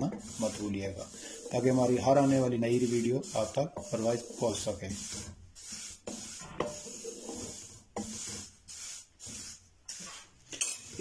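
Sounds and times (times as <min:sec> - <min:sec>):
wooden spatula scraping metal pan: 0:00.0 - 0:11.0.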